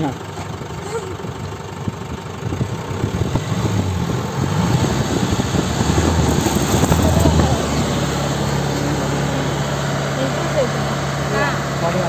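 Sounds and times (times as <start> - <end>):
vehicle engine revving: 1.9 - 12.0.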